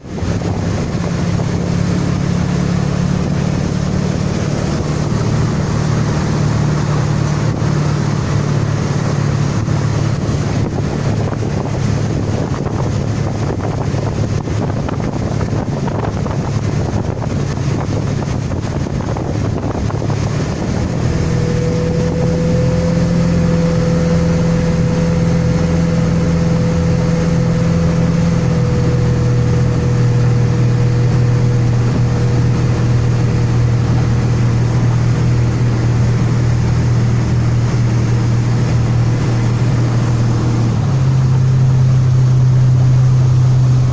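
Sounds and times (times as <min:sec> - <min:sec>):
boat engine running: 0:00.0 - 0:43.9
water rushing along hull: 0:00.0 - 0:43.9
wind buffeting microphone: 0:00.0 - 0:43.9.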